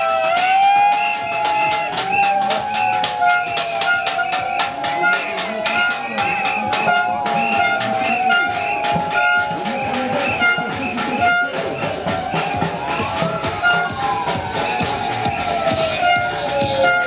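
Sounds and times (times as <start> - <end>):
fast beat music with sliding melody: 0.0 - 17.0.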